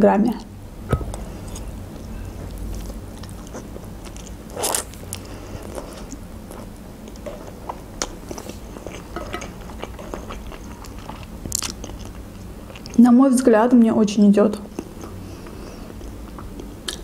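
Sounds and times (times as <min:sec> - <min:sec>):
soft chewing: 0:01.2 - 0:13.0, 0:14.6 - 0:17.0.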